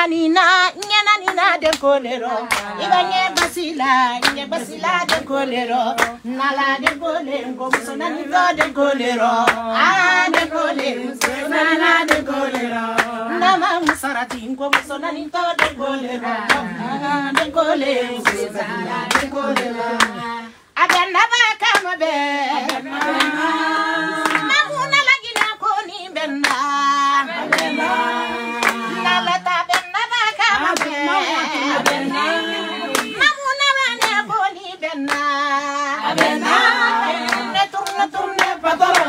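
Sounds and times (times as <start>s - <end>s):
woman singing: 0.0s - 39.0s
group hand clapping: 0.8s - 39.0s.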